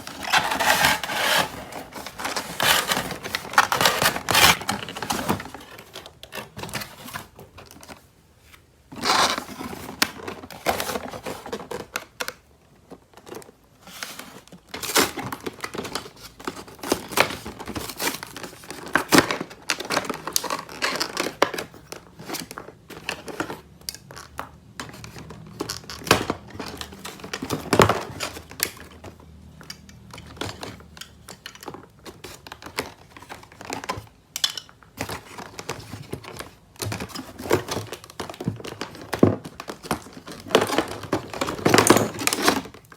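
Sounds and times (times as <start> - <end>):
packaging crinkling and tearing: 0.0 - 8.0, 9.0 - 12.4, 13.1 - 31.0, 35.0 - 42.9.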